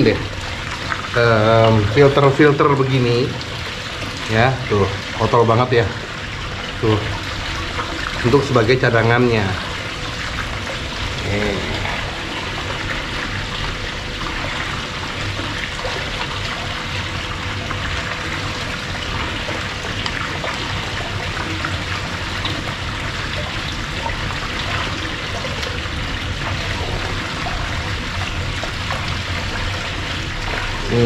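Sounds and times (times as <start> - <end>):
water splashing and trickling: 0.0 - 31.0.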